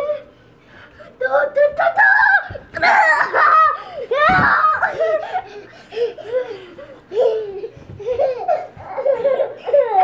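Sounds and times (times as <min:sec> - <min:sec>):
young children laughing: 0:01.2 - 0:10.0.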